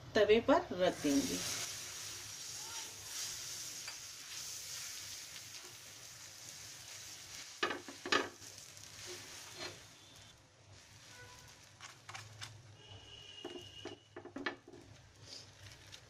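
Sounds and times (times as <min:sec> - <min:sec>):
bread sizzling on a hot pan: 0:00.7 - 0:16.0.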